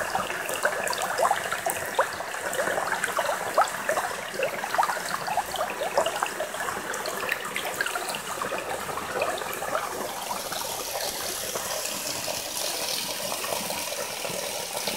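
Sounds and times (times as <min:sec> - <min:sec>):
stream babbling over stones: 0:00.0 - 0:14.9.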